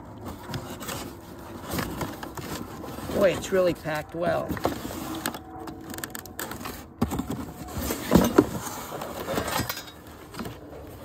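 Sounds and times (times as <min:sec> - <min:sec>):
cardboard rubbing and scraping: 0:00.0 - 0:11.0.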